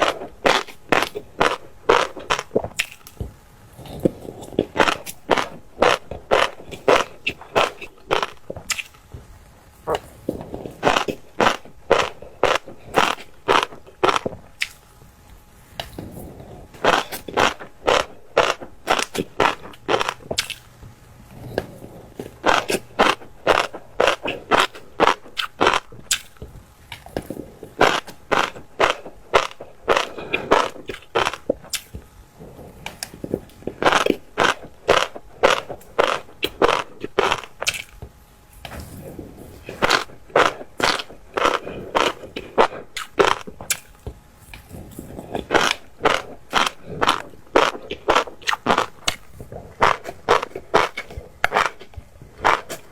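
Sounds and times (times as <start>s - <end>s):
crunchy chewing of fish roe: 0.0s - 52.9s.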